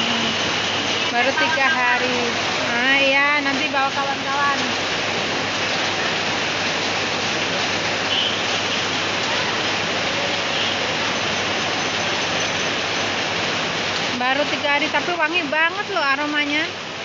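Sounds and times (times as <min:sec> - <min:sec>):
rain pouring: 0:00.0 - 0:17.0.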